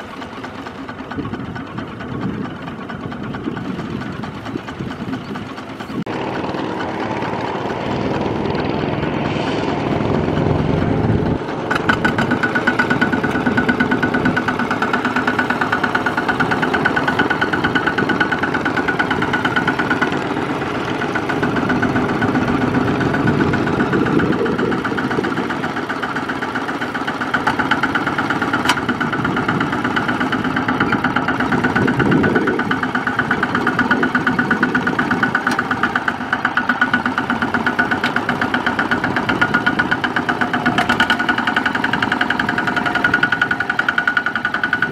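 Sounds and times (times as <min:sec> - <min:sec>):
diesel engine chugging under load: 0:00.0 - 0:44.9.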